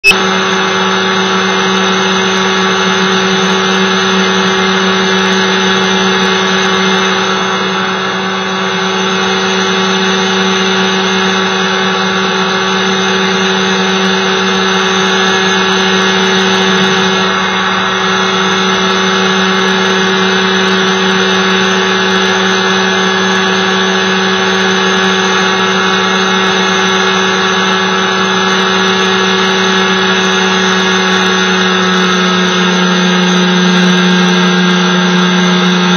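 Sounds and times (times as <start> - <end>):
light aircraft engine droning: 0.0 - 35.9.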